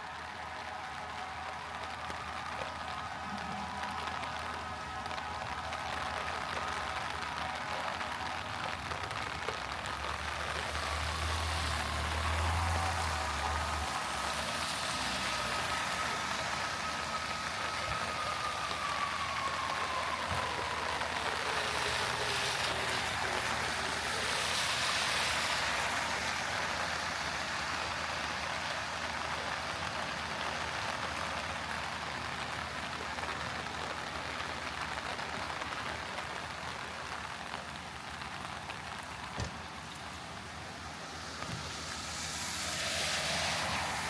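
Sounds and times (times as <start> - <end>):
heavy rain on street: 0.0 - 44.0
vehicle passing on wet road: 0.0 - 44.0.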